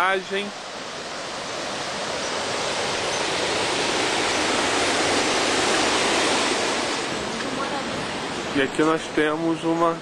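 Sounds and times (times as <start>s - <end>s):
water rushing over spillway: 0.0s - 10.0s.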